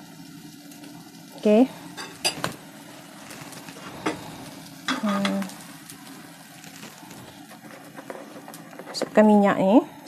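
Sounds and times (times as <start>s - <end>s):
gas stove burner hissing: 0.0s - 10.0s.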